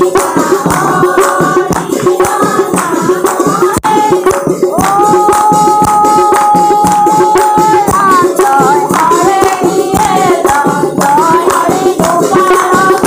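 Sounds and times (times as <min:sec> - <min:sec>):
rhythmic hand clapping: 0:00.0 - 0:13.0
women singing a devotional chant: 0:00.0 - 0:13.0.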